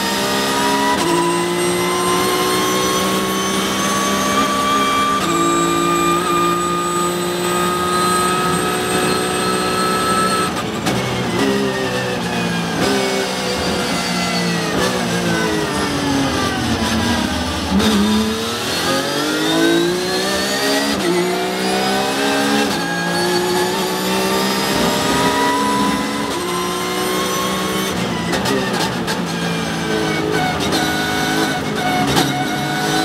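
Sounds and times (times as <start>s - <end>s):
racing car engine revving: 0.0s - 33.0s.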